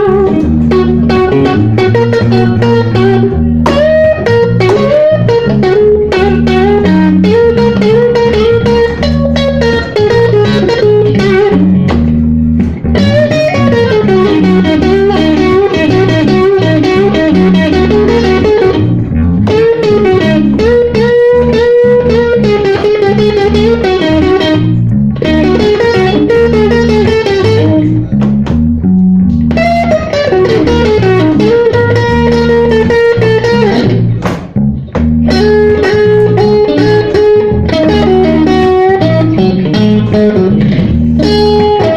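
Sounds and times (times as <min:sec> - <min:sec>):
blues band playing: 0:00.0 - 0:41.9
lead guitar bending notes: 0:00.0 - 0:41.9.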